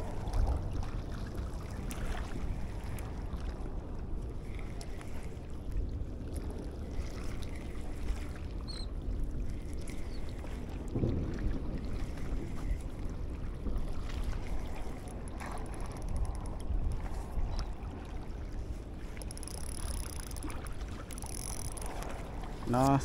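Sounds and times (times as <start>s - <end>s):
water moving at shoreline: 0.0s - 23.0s
wind on microphone: 0.0s - 23.0s.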